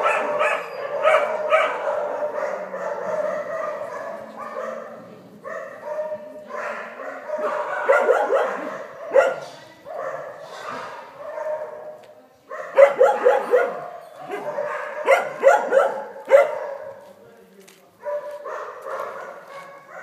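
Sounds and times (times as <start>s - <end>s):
dogs barking: 0.0s - 17.1s, 18.0s - 20.0s.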